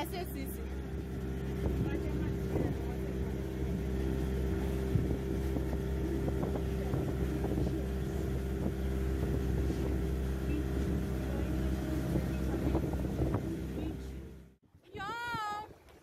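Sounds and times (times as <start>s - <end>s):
motorboat engine running: 0.0s - 16.0s
water splashing against hull: 0.0s - 16.0s.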